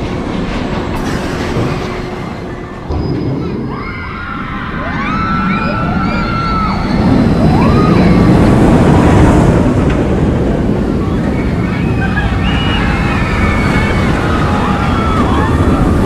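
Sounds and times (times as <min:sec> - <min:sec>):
roller coaster rumbling roar: 0:00.0 - 0:16.0
rushing wind: 0:00.0 - 0:16.0.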